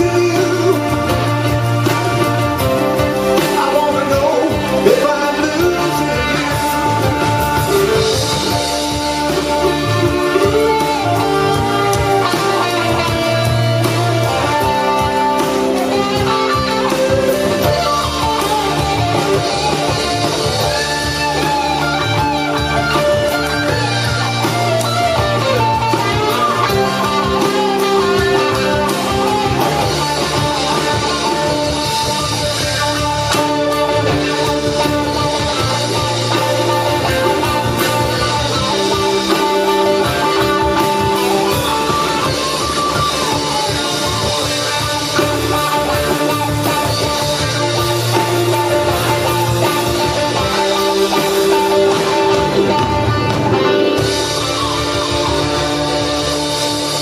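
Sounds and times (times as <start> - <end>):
blues band playing: 0.0 - 57.0
electric guitar lead lines: 0.0 - 57.0
steady bass line: 0.0 - 57.0.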